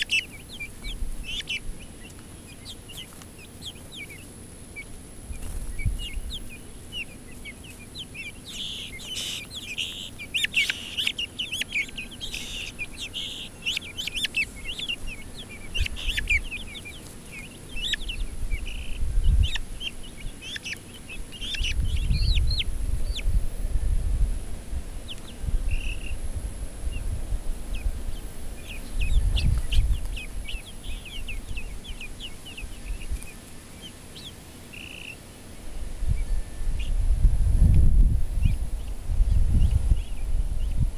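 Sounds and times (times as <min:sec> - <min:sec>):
chicks peeping and chirping: 0:00.0 - 0:40.9.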